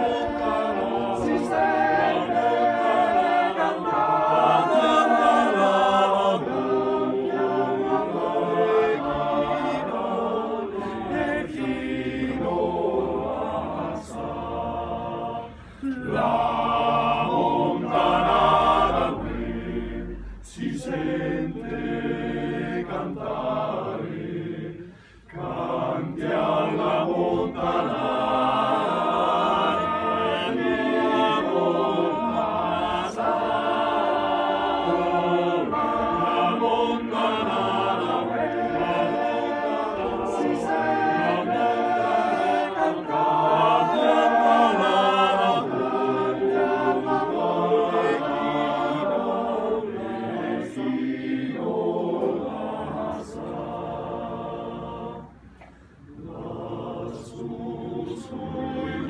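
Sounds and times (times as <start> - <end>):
male choir singing a cappella: 0.0 - 59.0.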